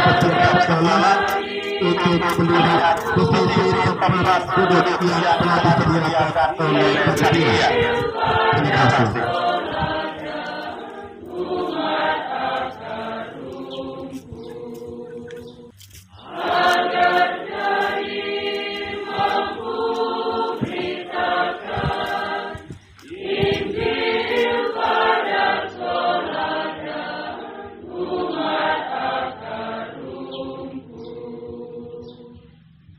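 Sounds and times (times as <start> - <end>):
group of voices singing unaccompanied: 0.0 - 32.8.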